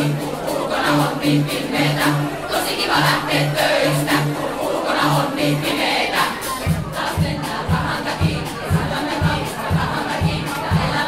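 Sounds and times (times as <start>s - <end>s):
choir singing and shouting: 0.0s - 11.0s
low thudding beat: 0.0s - 11.0s.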